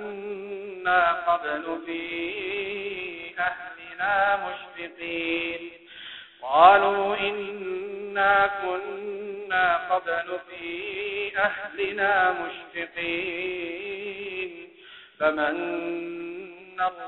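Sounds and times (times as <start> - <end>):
man chanting melodically: 0.0 - 5.8, 6.4 - 17.0.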